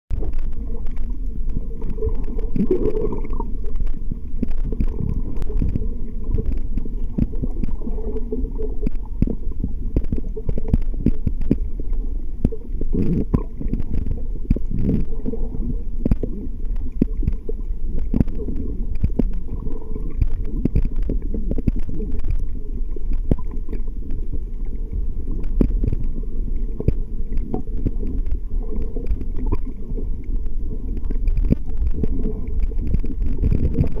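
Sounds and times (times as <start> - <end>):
muffled underwater rumble: 0.1 - 34.0.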